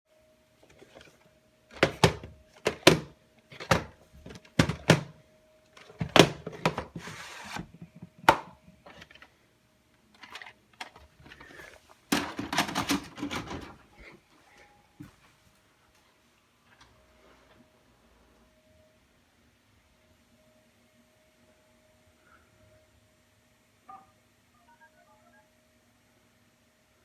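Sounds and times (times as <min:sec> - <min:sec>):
faint steady hum: 0:00.1 - 0:27.0.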